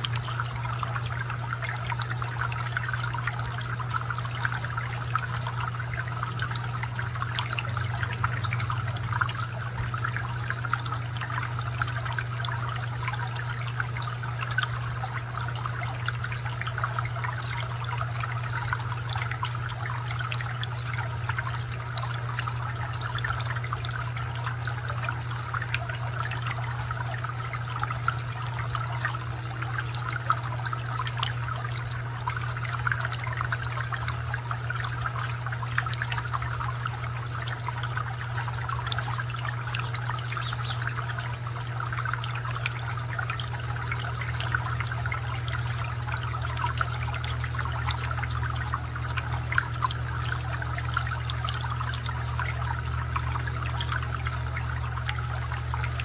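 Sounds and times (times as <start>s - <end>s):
fountain water trickling and splashing: 0.0s - 56.0s.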